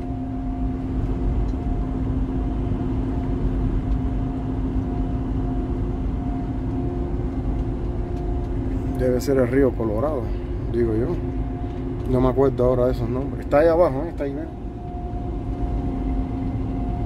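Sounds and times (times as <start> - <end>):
diesel engine drone: 0.0 - 17.0
low road rumble: 0.0 - 17.0
steady hums: 0.0 - 17.0.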